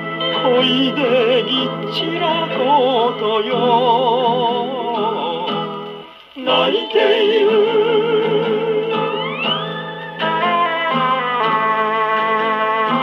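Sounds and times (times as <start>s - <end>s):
popular song on a gramophone: 0.0s - 13.0s.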